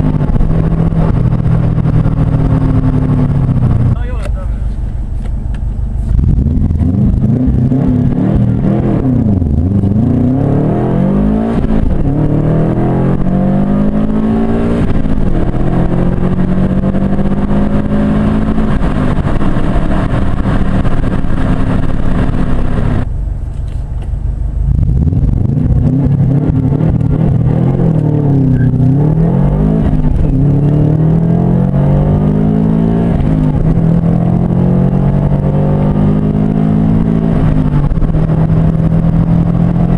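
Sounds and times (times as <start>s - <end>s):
car engine accelerating hard: 0.0s - 23.1s, 24.4s - 39.9s.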